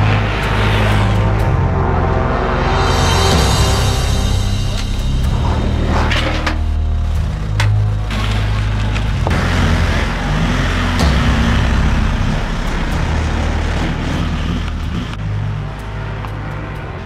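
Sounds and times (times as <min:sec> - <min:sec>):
diesel car engine revving: 0:00.0 - 0:17.0
music: 0:00.0 - 0:17.0.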